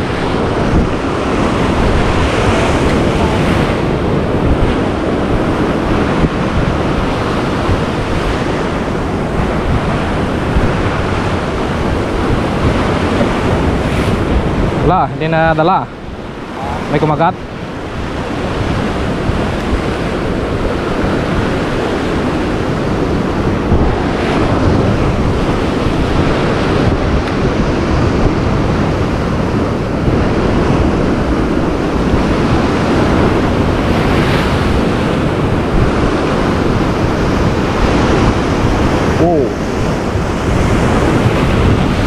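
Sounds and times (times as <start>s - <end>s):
surf breaking on rocks: 0.0s - 42.0s
wind buffeting microphone: 0.0s - 42.0s.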